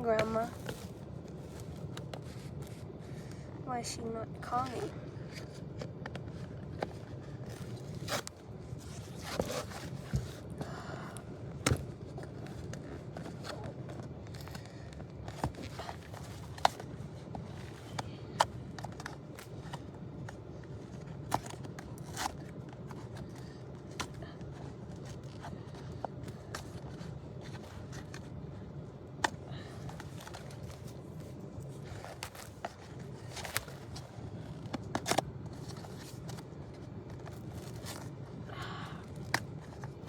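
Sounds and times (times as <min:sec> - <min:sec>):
objects being handled: 0:00.0 - 0:03.3, 0:04.4 - 0:10.8, 0:11.5 - 0:40.0
steady low hum: 0:00.0 - 0:40.0.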